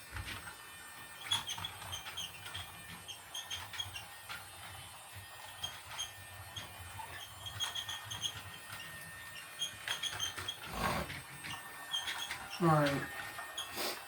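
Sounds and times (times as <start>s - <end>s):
toy train high-pitched squeaks: 0.0s - 14.0s.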